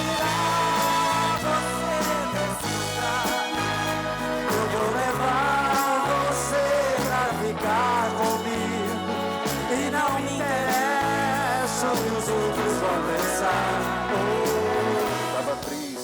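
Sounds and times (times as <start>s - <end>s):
bass notes: 0.0s - 15.7s
drums: 0.0s - 16.0s.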